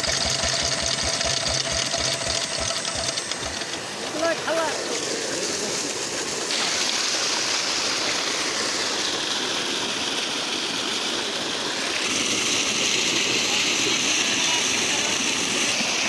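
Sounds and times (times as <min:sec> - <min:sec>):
water gushing into a tank: 0:00.0 - 0:16.0.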